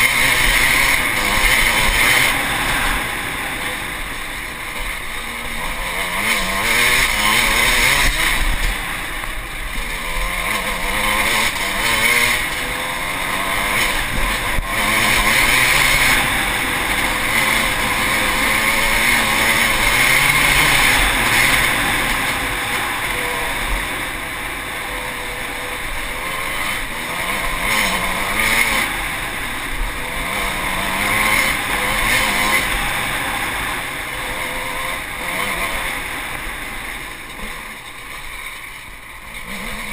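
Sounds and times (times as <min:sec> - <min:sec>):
dirt bike engine revving: 0:00.0 - 0:39.9
steady rushing noise: 0:00.0 - 0:39.9.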